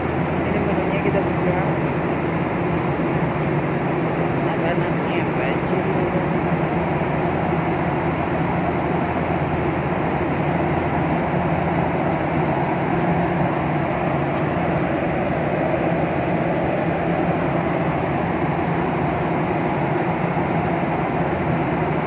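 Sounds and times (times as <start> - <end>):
airliner cabin hum: 0.0 - 22.0
low drone: 0.0 - 22.0.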